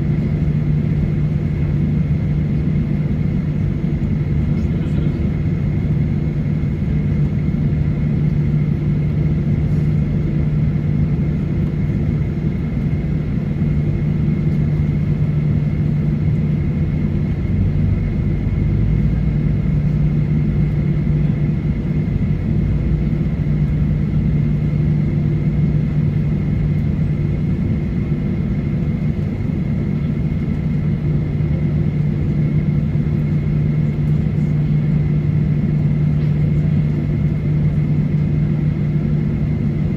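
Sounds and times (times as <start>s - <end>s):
jet engines humming: 0.0s - 39.9s.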